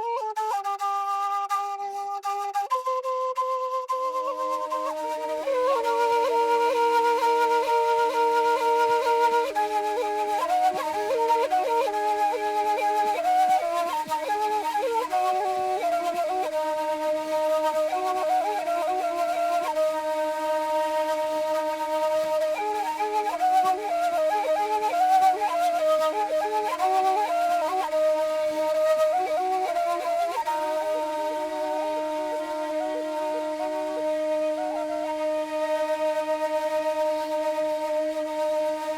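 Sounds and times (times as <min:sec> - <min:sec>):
flute melody with trills: 0:00.0 - 0:38.9.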